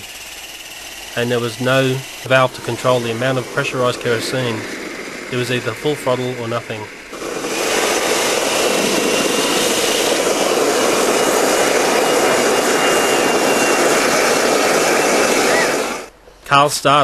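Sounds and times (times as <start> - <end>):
jet engine roar: 0.0 - 16.2
high turbine whine: 0.0 - 17.0.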